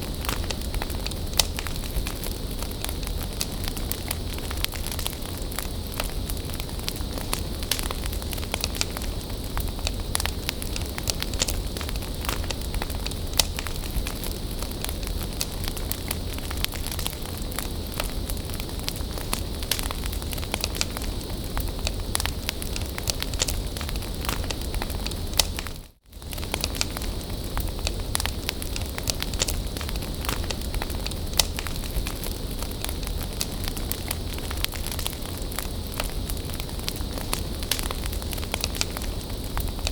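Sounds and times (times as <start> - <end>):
bonfire flame rushing: 0.0 - 39.9
burning wood crackling and popping: 0.0 - 39.9.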